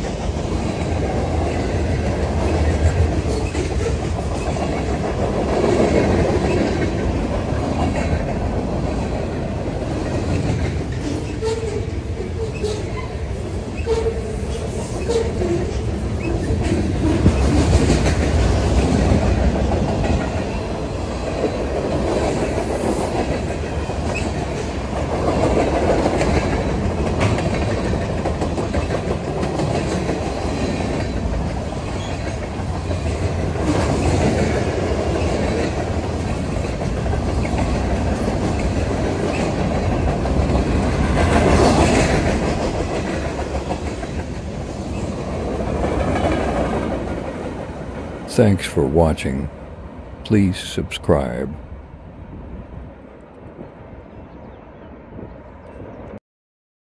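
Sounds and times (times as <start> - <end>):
freight train wheels on rails: 0.0 - 50.8.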